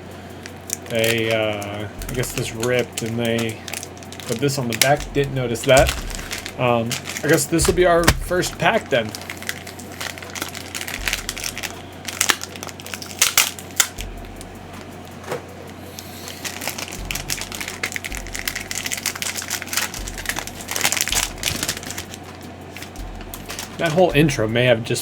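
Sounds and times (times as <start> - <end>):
plastic wrapper tearing and crinkling: 0.7 - 14.5, 16.2 - 24.1.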